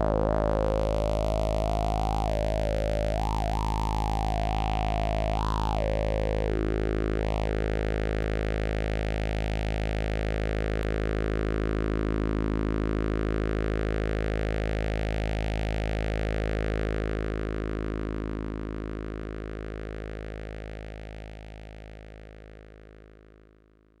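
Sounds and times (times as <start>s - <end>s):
synthesizer low droning note: 0.0s - 23.5s.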